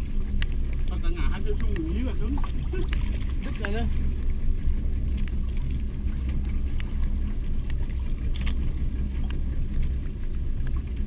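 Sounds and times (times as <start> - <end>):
boat engine rumbling: 0.0 - 11.0
faint steady hum: 0.0 - 11.0.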